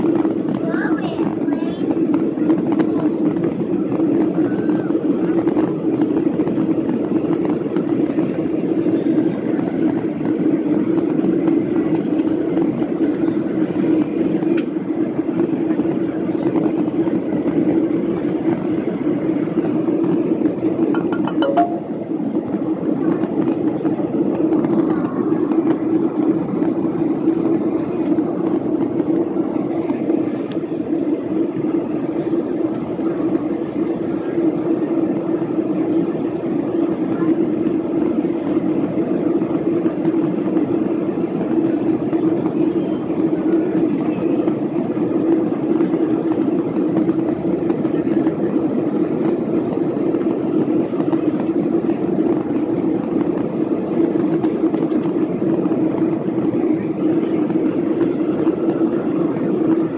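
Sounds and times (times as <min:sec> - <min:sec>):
jet engines droning: 0:02.0 - 0:59.9.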